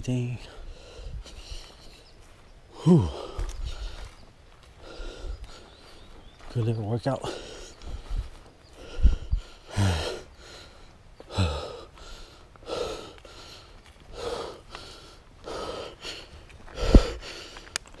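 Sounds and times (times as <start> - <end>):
person breathing hard: 0.4 - 2.0, 2.7 - 6.0, 7.2 - 18.0.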